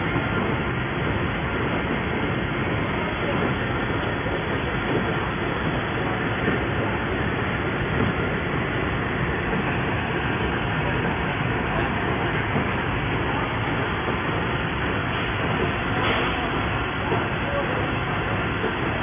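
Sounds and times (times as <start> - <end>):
printing machine running: 0.0 - 19.0.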